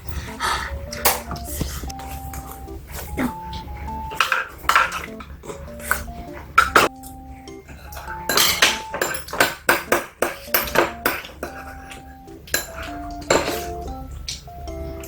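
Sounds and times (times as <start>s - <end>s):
light background music: 0.0s - 15.0s
utensils clinking on dishes: 0.0s - 15.0s.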